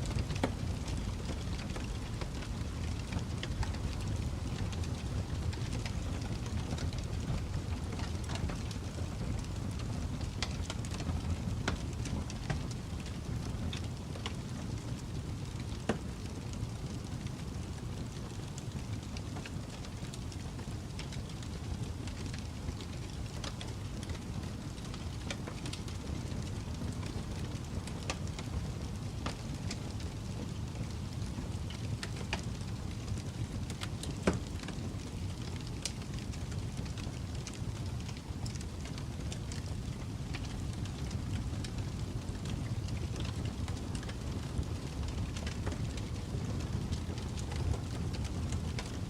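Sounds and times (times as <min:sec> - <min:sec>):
logs crackling and popping: 0:00.0 - 0:49.0
low rumble of flames: 0:00.0 - 0:49.0.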